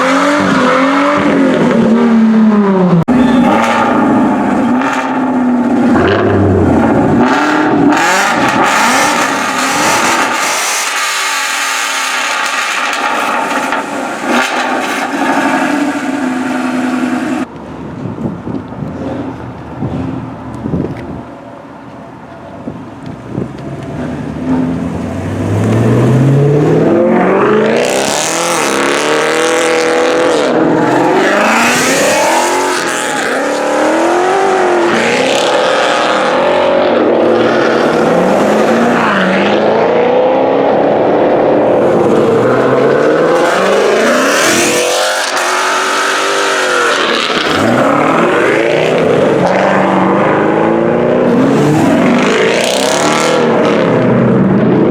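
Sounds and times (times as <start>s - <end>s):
car engines revving: 0.0s - 17.6s, 23.0s - 54.9s.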